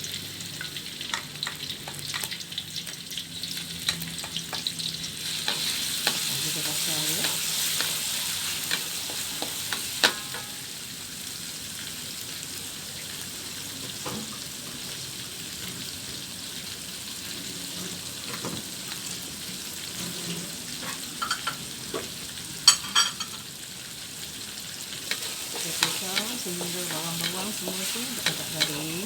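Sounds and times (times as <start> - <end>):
aromatics sizzling in hot oil: 0.0 - 29.0.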